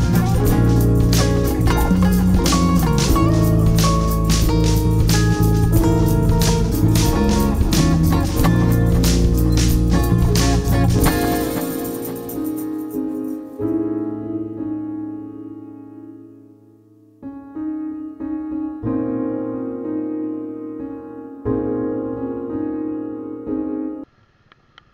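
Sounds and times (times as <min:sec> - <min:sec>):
piano chords: 0:00.0 - 0:24.1.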